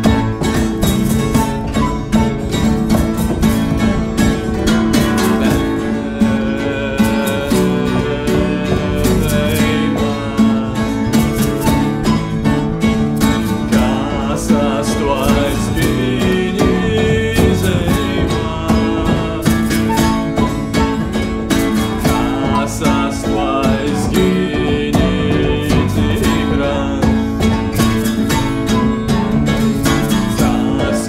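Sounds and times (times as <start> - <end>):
acoustic guitar playing: 0.0 - 31.0
person singing: 0.0 - 31.0.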